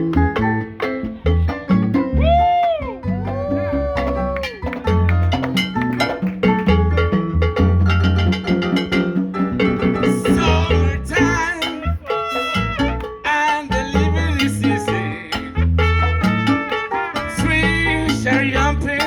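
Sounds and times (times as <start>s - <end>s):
salsa music with brass: 0.0s - 19.0s.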